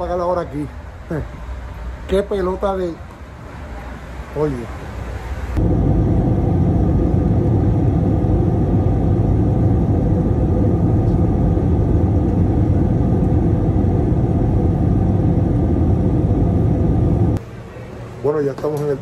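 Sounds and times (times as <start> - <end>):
vehicle rumbling in motion: 0.0 - 18.8.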